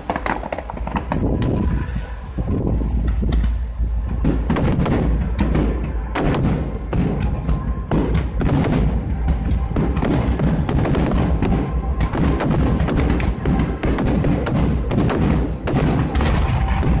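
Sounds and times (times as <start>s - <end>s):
fireworks booming and cracking: 0.0s - 17.0s
low rumble: 0.6s - 17.0s.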